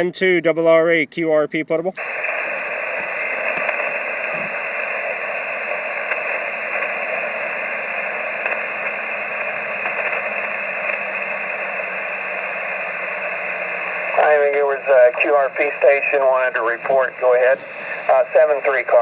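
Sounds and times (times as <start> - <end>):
radio receiver hiss: 1.7 - 19.0.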